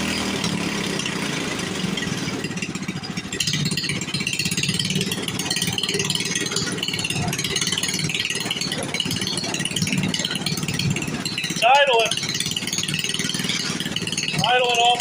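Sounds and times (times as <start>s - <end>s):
single-cylinder engine idling: 0.0s - 15.0s.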